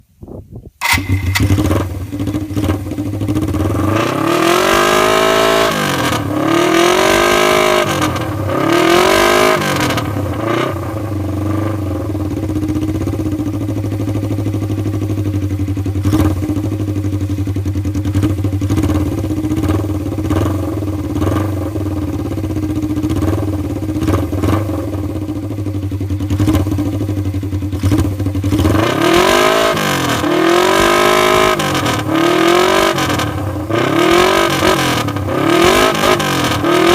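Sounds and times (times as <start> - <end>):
motorcycle engine revving and idling: 0.8 - 36.9.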